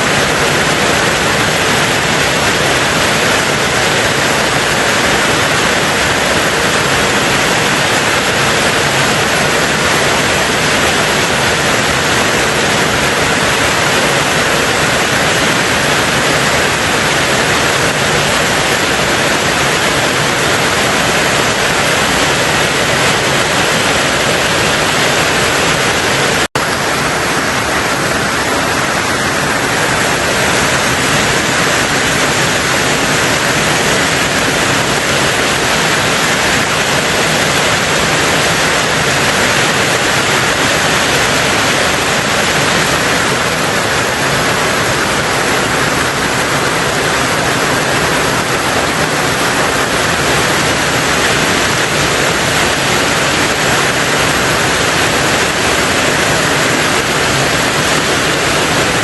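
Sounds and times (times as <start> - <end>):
heavy rain on a tin roof: 0.0 - 59.0.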